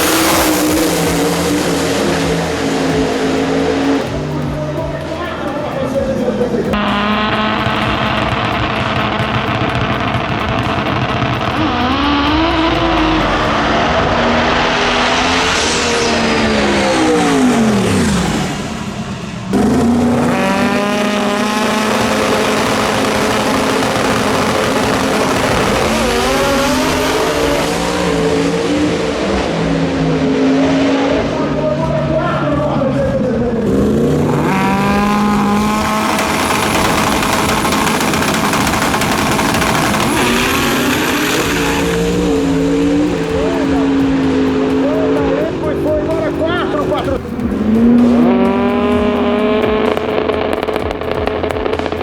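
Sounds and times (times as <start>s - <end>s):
racing car engines at full throttle: 0.0s - 52.0s.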